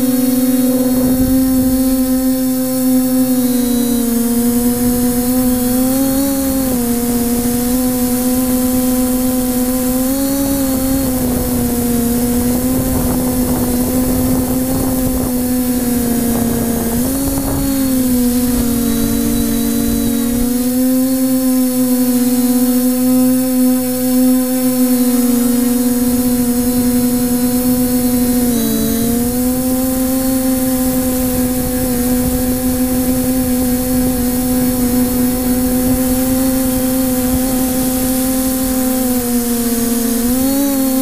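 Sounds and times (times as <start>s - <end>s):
drone propellers humming: 0.0s - 41.0s
wind buffeting microphone: 0.3s - 3.4s, 4.0s - 20.9s, 25.5s - 40.5s.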